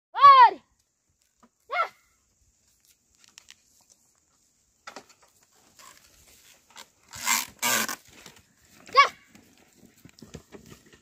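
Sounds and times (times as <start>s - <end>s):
rustling of dry grass and soil: 0.7s - 11.0s.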